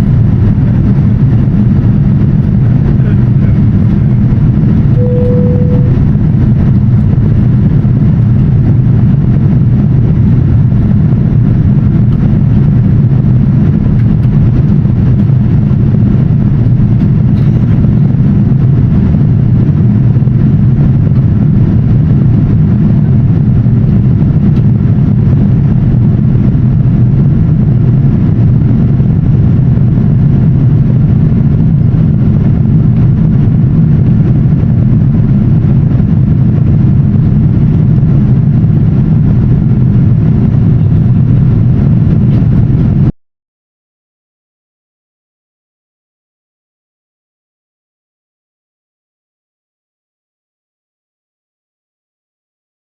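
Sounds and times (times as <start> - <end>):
airliner cabin engine rumble: 0.0 - 43.2.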